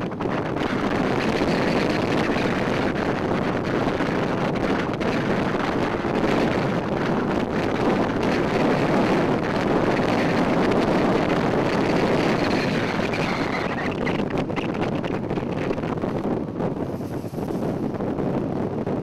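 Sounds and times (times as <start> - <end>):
car road noise: 0.0 - 19.0
wind rushing over microphone: 0.0 - 19.0.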